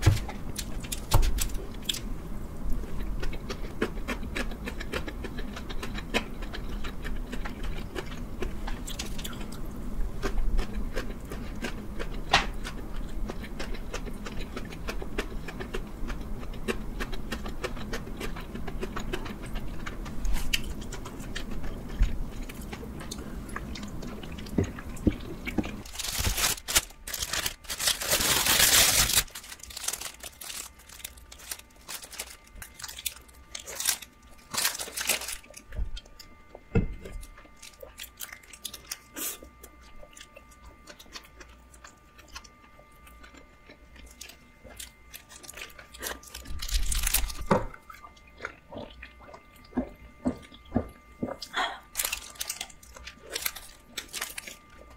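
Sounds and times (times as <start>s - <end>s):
close-up chewing: 2.7s - 54.9s.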